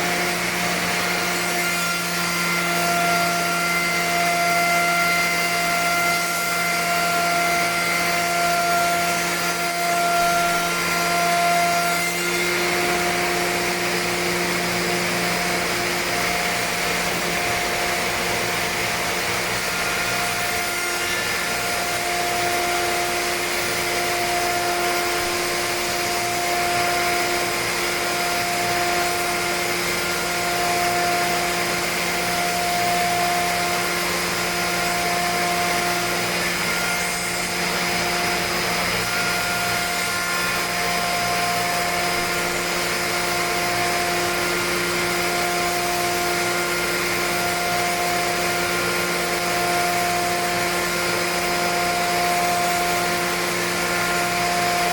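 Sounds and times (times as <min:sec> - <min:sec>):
machine motor whine: 0:00.0 - 0:54.9.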